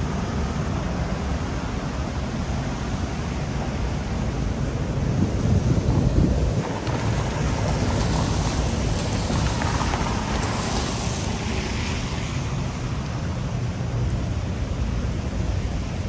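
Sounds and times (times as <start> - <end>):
heavy rain hiss: 0.0 - 16.0
wind rumble on microphone: 0.0 - 16.0.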